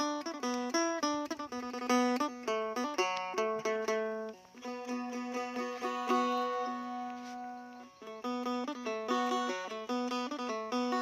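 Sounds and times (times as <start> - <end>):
plucked lute melody: 0.0 - 11.0.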